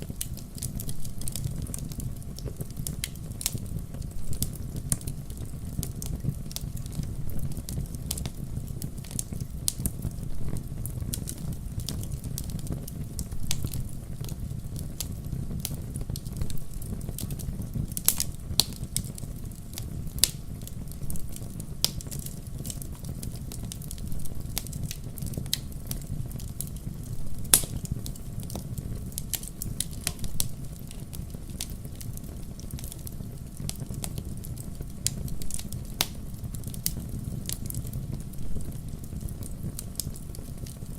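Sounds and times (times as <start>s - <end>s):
fire flames rumbling: 0.0s - 40.9s
logs crackling and popping: 0.0s - 40.9s.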